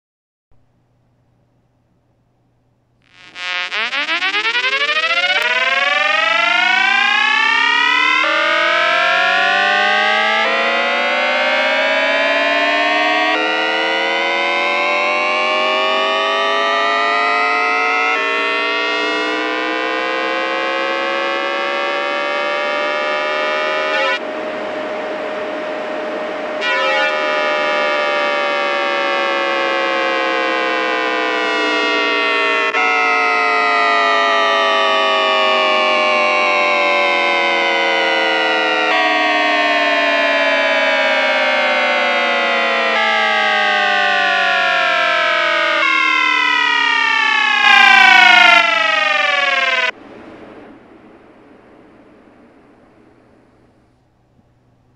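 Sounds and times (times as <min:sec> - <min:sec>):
electric train motor whine: 0:03.1 - 0:50.0.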